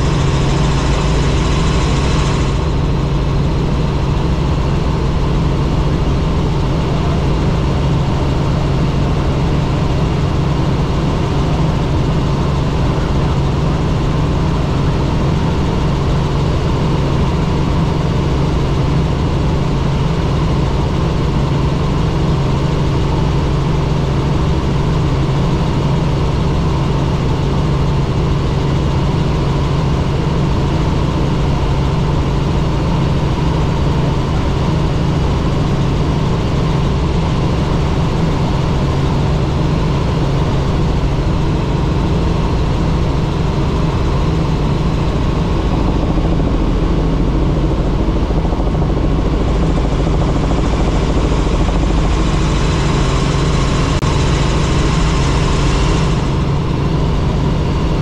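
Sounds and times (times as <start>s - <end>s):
helicopter engine and rotor noise: 0.0s - 58.0s.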